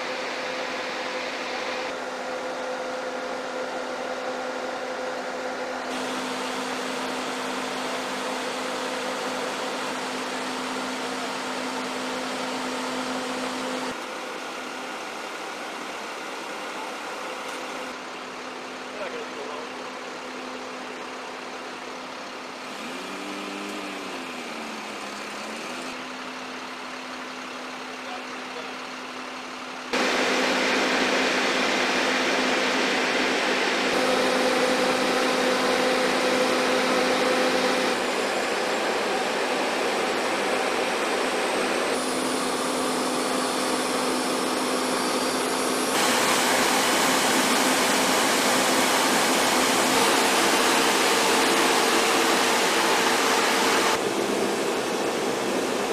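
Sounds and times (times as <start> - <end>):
engine and machinery hum: 0.0 - 55.9.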